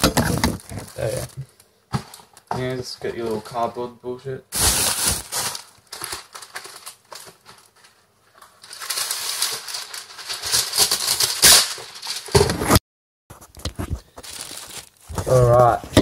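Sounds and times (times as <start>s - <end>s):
baking paper crinkling: 0.0s - 1.4s, 4.5s - 16.0s.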